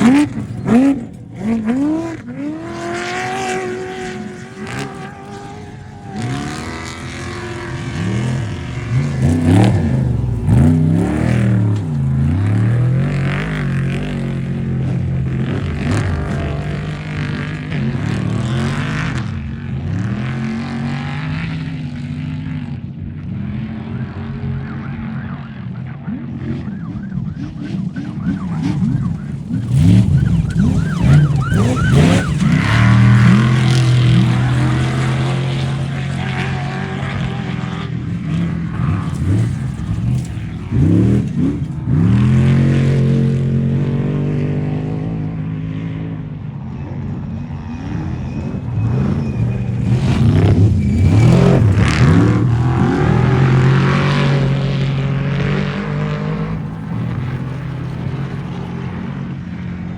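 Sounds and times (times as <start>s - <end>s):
race vehicle engines revving: 0.0s - 59.9s.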